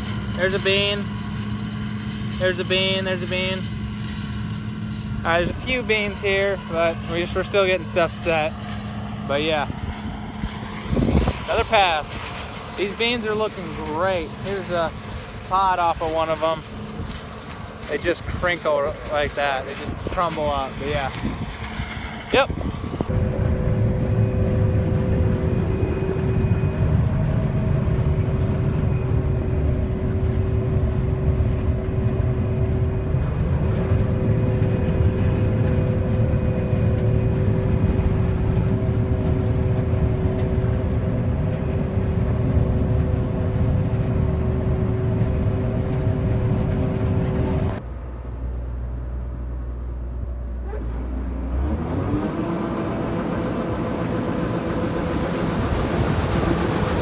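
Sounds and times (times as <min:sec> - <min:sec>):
machine whine: 0:00.0 - 0:48.8, 0:51.0 - 0:57.0
combine harvester running: 0:00.0 - 0:57.0.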